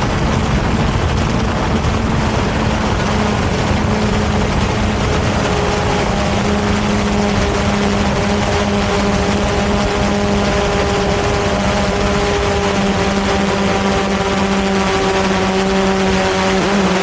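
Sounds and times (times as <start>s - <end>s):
dense rushing noise: 0.0s - 17.0s
drone propellers buzzing: 0.0s - 17.0s.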